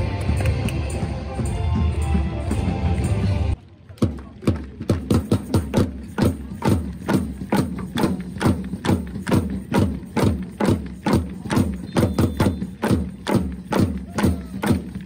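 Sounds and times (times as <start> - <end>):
rhythmic drum strikes with boom: 0.0 - 15.0.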